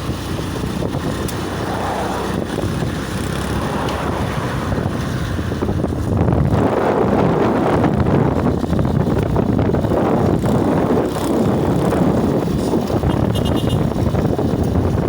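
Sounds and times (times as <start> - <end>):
roadside traffic: 0.0 - 15.0
wind on microphone: 0.0 - 15.0.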